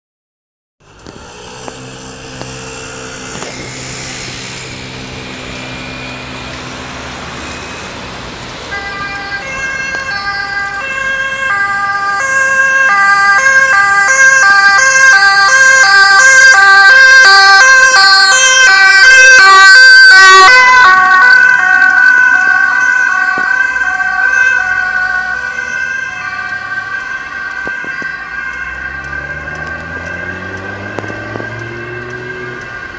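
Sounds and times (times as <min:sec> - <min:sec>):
low traffic hum: 0:00.8 - 0:32.9
two-tone ambulance siren: 0:00.8 - 0:32.9.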